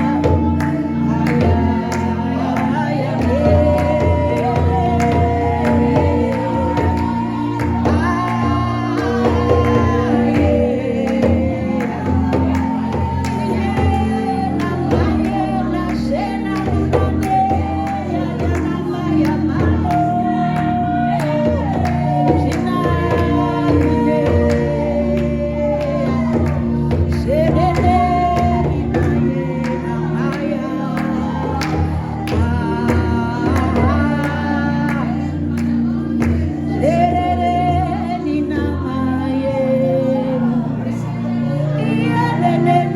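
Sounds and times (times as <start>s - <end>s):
percussion strikes: 0.0s - 36.9s
person singing worship music: 0.0s - 42.9s
sustained instruments: 0.0s - 42.9s.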